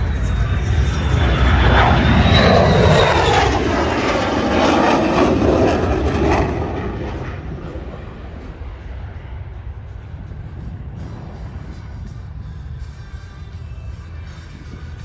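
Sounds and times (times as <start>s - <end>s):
aircraft flying past: 0.0s - 15.0s.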